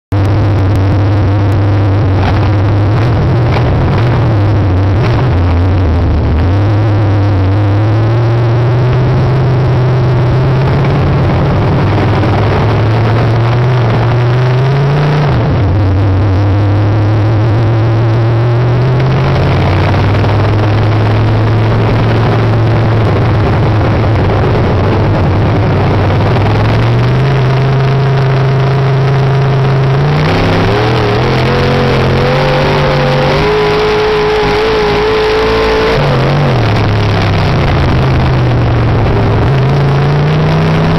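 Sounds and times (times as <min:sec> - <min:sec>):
higher engine note: 0:00.1 - 0:40.9
race car engines revving: 0:00.2 - 0:40.9.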